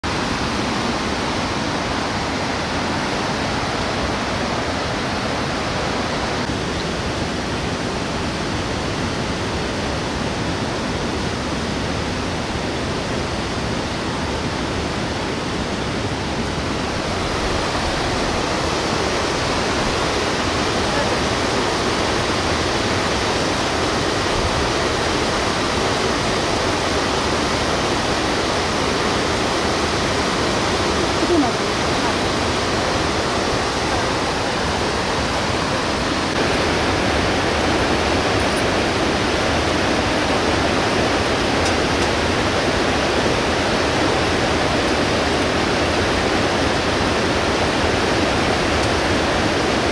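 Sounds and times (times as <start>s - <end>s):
river rushing over rapids: 0.0s - 49.9s.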